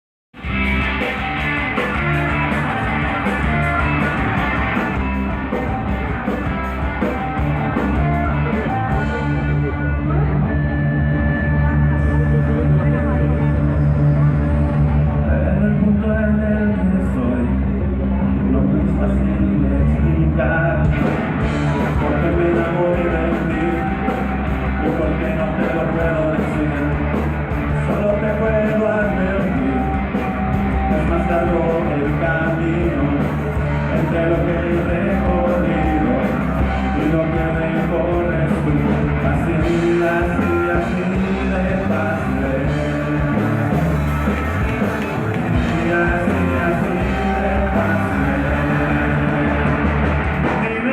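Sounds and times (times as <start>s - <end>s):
bass guitar: 0.3s - 50.9s
drums: 0.3s - 50.9s
electric guitar: 0.4s - 50.9s
loud live rock band: 0.4s - 50.9s.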